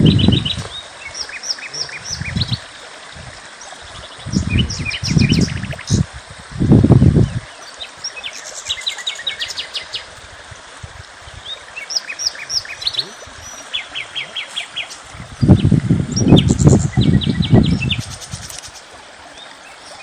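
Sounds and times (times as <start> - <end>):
small birds chirping: 0.0 - 2.7, 3.5 - 6.1, 7.2 - 10.1, 11.2 - 20.0.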